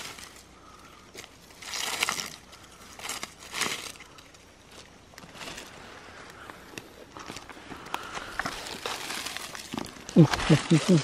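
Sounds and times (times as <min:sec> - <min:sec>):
dry leaves rustling and crunching: 0:00.0 - 0:06.2, 0:07.2 - 0:11.0.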